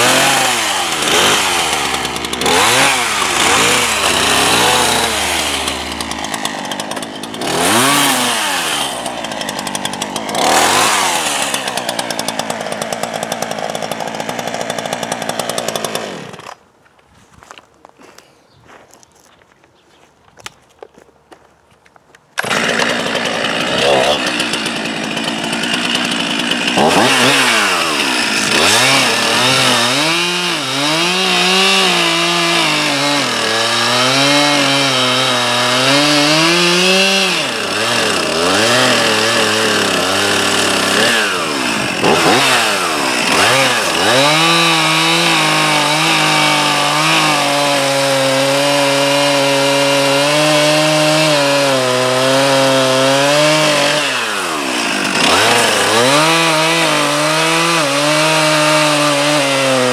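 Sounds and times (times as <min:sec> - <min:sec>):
chainsaw cutting through trunk: 0:00.0 - 0:16.6, 0:22.4 - 0:59.9.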